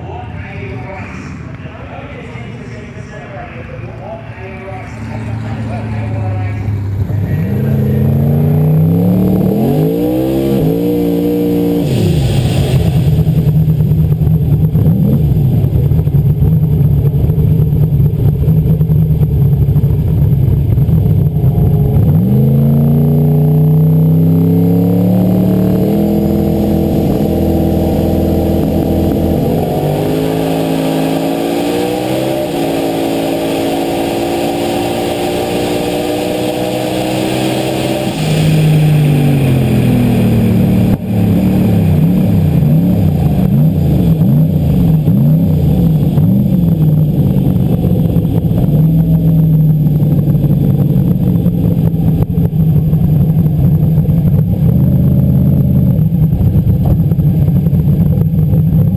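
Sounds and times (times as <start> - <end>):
drag car engine revving: 0.0 - 58.9
fast exhaust crackle: 0.0 - 58.9.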